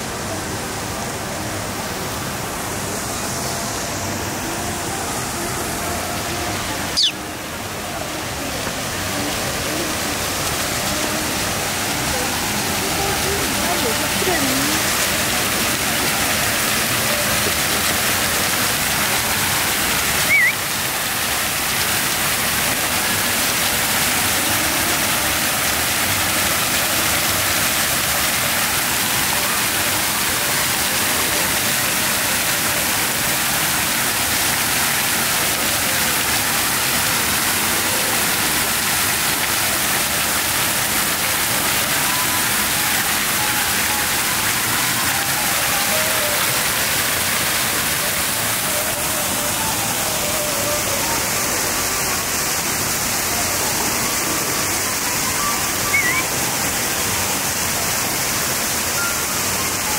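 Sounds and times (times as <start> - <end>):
fountain water jets splashing: 0.0 - 59.9.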